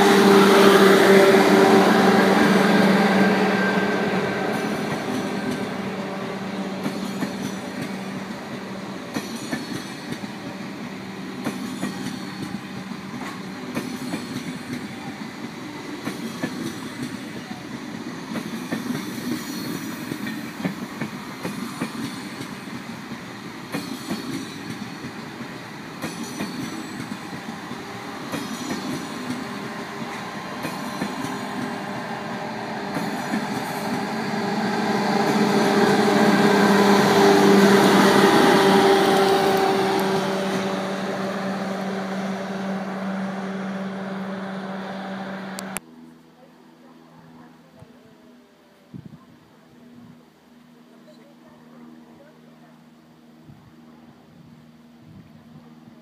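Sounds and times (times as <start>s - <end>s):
train electric hum: 0.0s - 56.0s.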